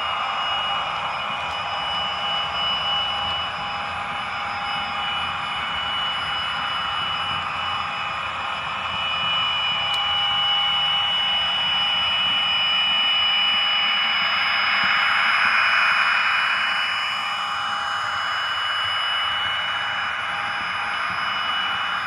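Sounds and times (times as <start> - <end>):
model train engine sound: 0.0 - 22.0.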